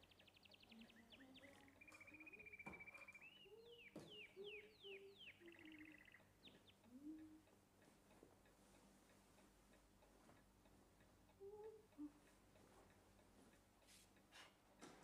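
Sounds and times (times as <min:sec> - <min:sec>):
faint birdsong: 0:00.0 - 0:13.8.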